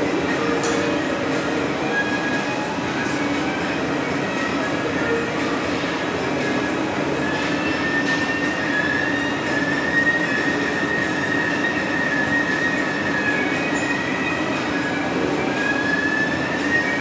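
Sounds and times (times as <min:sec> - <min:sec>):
gas furnace roar: 0:00.0 - 0:17.0.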